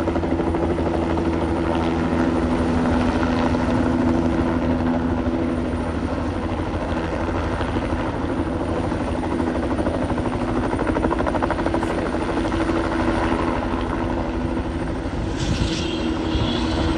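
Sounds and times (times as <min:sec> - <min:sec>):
helicopter rotor and engine: 0:00.0 - 0:16.9.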